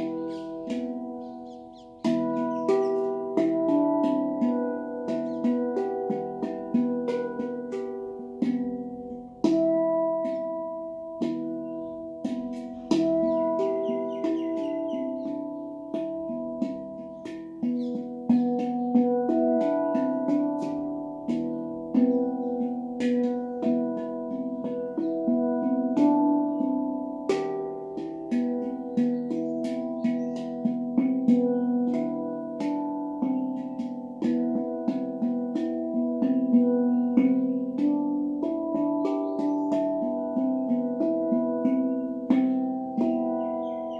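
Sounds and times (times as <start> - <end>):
handpan melody: 0.0 - 43.9.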